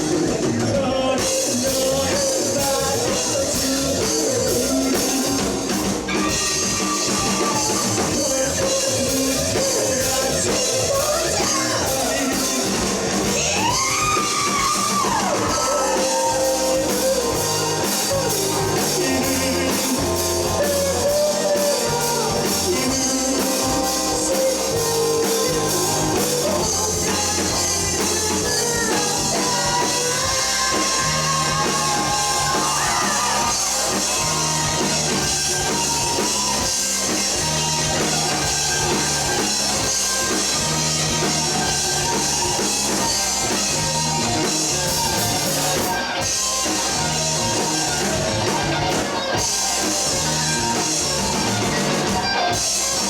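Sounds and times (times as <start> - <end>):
bass guitar holding notes: 0.0 - 53.0
drum kit with cymbals: 0.0 - 53.0
electric guitar bending notes: 2.8 - 53.0.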